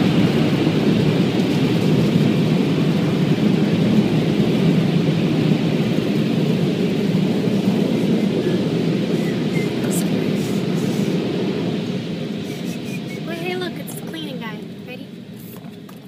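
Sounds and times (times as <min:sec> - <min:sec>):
car wash blowers rumbling: 0:00.0 - 0:16.0.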